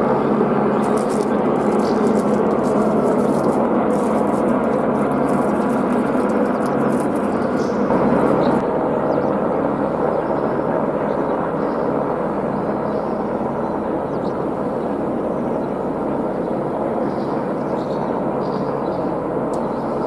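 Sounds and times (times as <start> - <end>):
distant helicopter hovering: 0.0 - 20.0.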